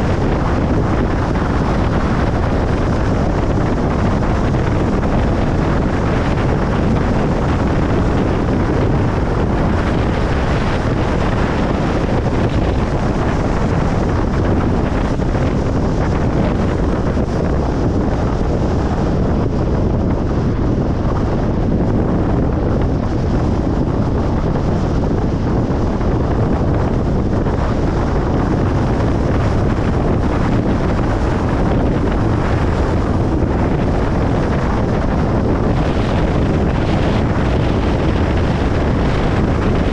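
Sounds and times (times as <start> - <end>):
car tyre and wind noise: 0.0 - 39.9.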